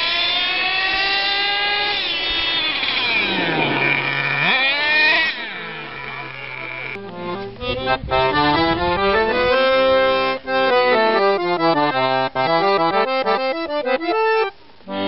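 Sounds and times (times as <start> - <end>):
accordion playing quick melody: 1.7 - 15.0.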